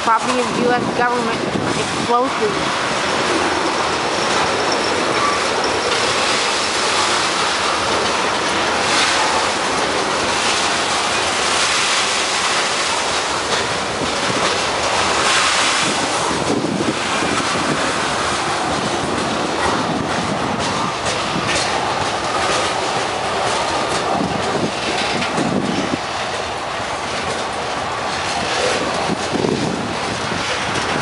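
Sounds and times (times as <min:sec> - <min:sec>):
freight train wheels on rail: 0:00.0 - 0:31.0.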